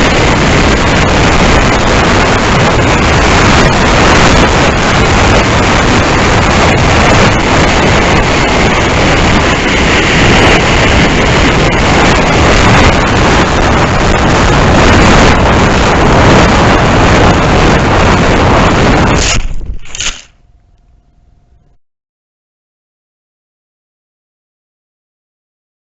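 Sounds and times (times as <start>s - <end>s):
faint high whine: 0.0s - 21.8s
wind rush: 0.0s - 21.8s.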